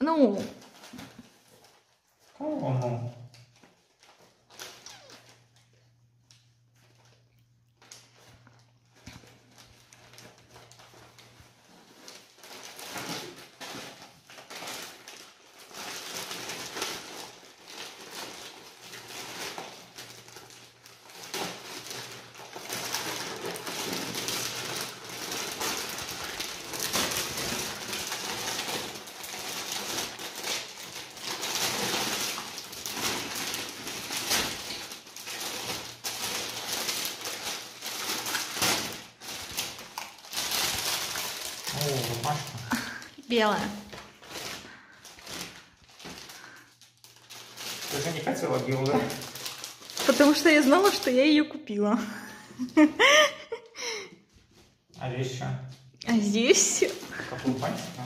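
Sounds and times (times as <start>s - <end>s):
wrapping paper rustling: 0.0s - 51.4s, 52.0s - 58.0s.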